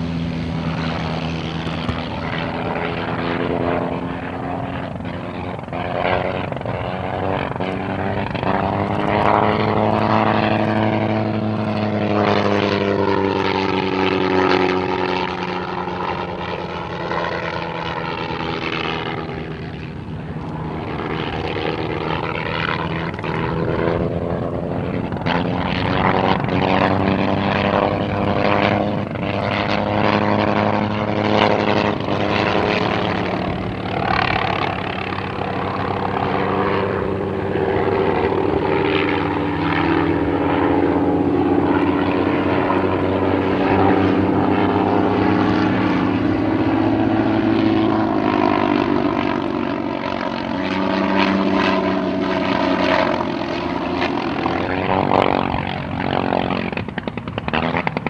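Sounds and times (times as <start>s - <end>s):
rotary aircraft engine in flight: 0.0s - 58.0s.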